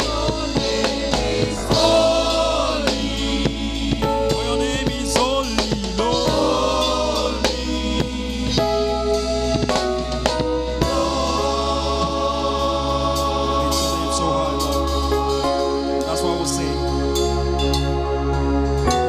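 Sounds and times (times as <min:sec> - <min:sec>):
group singing gospel: 0:00.0 - 0:17.0
drum kit: 0:00.0 - 0:18.0
sustained keyboard chords: 0:00.0 - 0:19.0.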